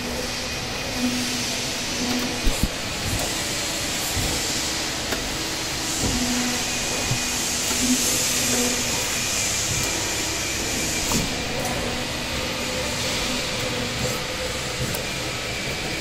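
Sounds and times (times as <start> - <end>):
hydraulic pump hissing: 0.0 - 16.0.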